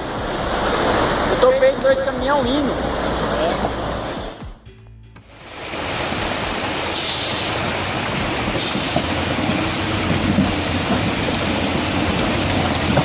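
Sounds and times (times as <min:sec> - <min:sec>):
rushing stream water: 0:00.0 - 0:04.5, 0:05.4 - 0:13.0
truck engine running: 0:00.0 - 0:13.0.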